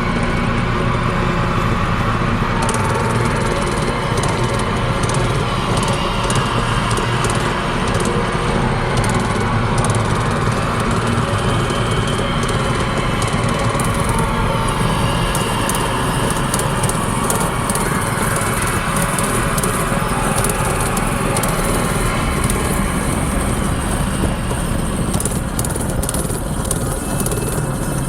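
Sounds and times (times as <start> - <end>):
small engine running: 0.0 - 28.0
sharp clicks and cracks: 2.6 - 8.2, 9.0 - 28.0.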